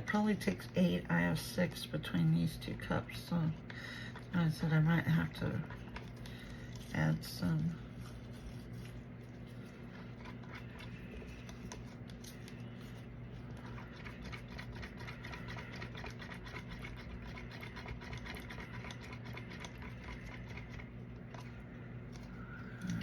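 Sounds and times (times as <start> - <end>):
steady low hum: 0.0 - 23.0
stir stick scraping plastic cup: 3.1 - 21.6.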